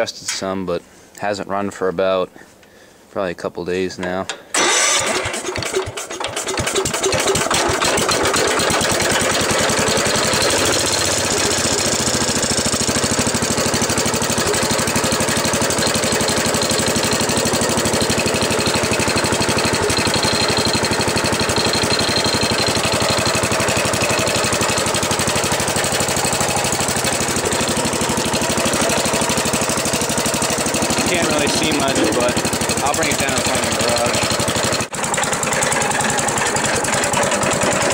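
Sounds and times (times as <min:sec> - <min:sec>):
garden tractor engine running: 0:04.3 - 0:37.9.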